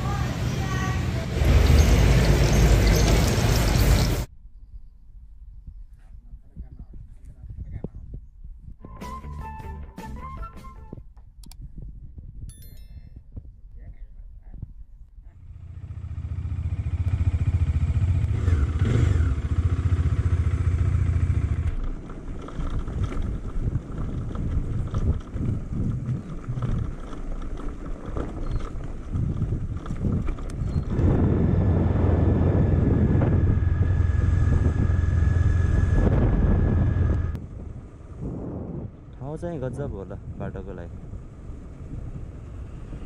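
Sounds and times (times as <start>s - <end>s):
motorcycle engine rumbling: 0.0s - 8.9s, 13.1s - 43.0s.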